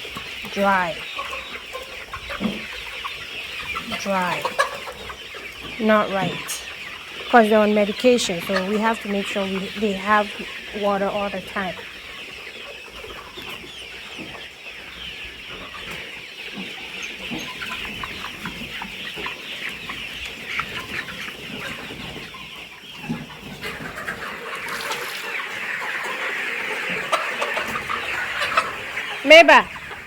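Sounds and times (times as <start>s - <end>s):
chickens clucking and cheeping: 0.0s - 30.0s.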